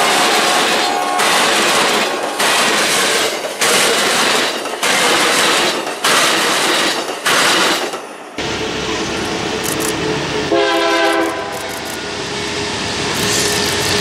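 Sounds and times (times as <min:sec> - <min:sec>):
train wheels clattering on track: 0:00.0 - 0:14.0.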